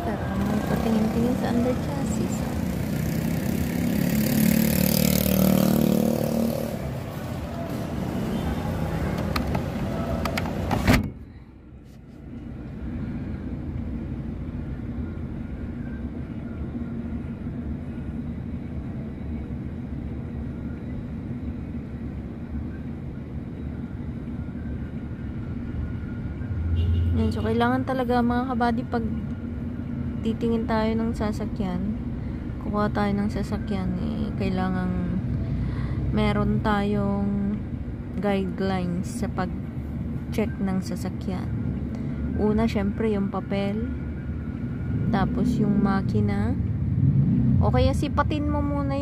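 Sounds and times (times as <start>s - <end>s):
low engine hum: 0.0s - 49.0s
street traffic passing: 0.0s - 49.0s.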